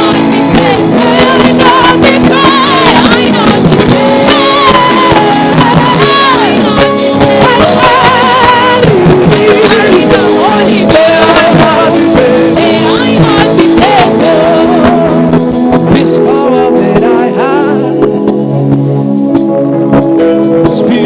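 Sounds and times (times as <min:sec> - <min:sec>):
voices singing: 0:00.0 - 0:17.9
sustained instrumental chords: 0:00.0 - 0:21.0.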